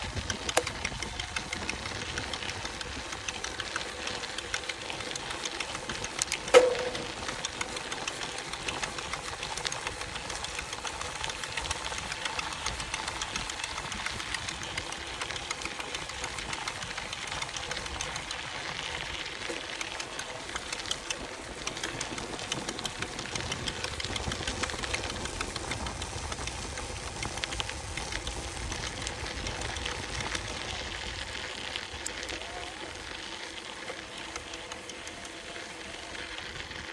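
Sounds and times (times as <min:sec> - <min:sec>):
e-bike motor hum: 0:00.0 - 0:36.9
fast stream of small clicks: 0:00.0 - 0:36.9.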